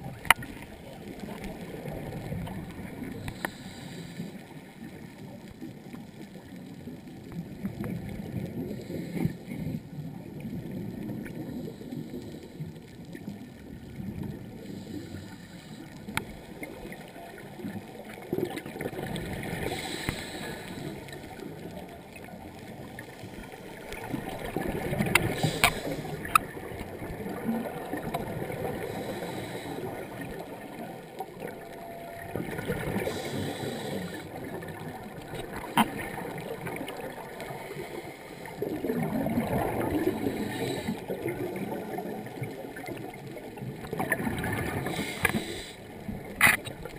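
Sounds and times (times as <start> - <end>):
muffled underwater rumble: 0.0 - 46.9.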